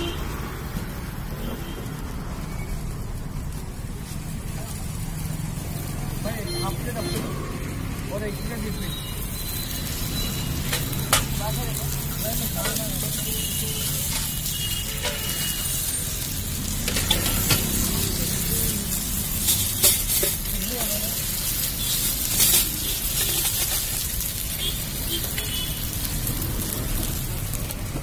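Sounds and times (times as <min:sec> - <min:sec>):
batter sizzling in a pan: 0:00.0 - 0:28.0.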